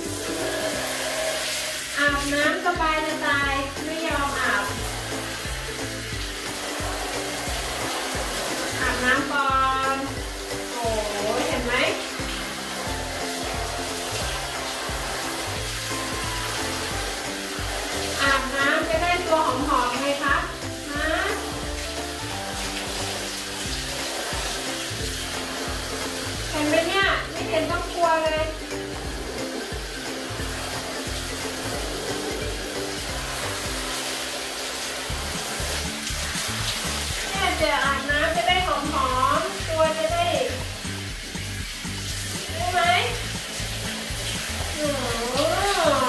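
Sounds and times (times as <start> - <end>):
background music: 0.0 - 46.0
shower head spraying water: 0.0 - 46.0.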